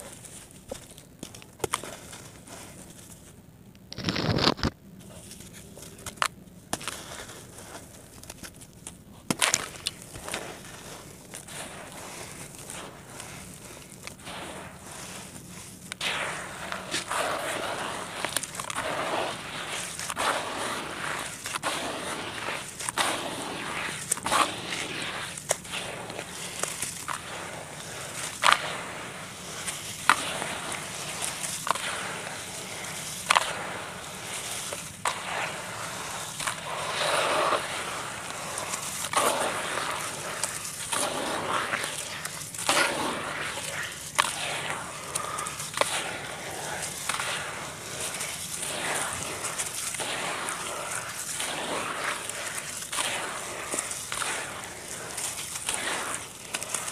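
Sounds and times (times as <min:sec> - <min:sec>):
hands kneading wet gritty dirt: 0:00.0 - 0:03.4, 0:05.1 - 0:56.9
sharp crackles and clicks: 0:03.7 - 0:56.9.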